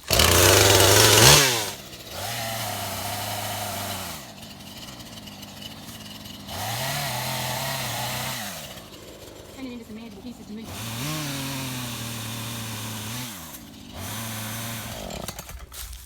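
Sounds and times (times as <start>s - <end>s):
chainsaw idling: 0.0s - 16.0s
chainsaw revving: 0.0s - 16.0s.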